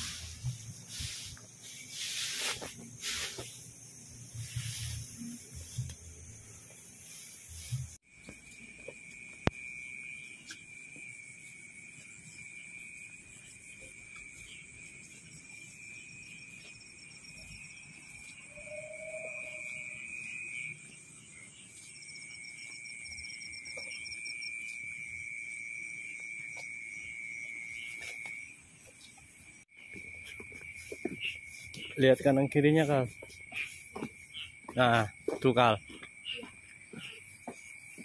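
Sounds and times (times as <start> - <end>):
insects trilling: 0.0 - 38.0
short low insect call: 0.0 - 38.0.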